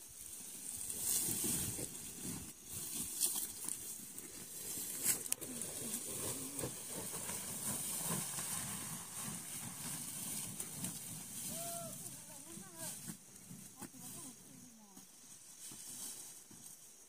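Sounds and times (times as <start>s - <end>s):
dry corn stalks rustling: 0.0s - 17.0s
steady high hiss: 0.0s - 17.0s.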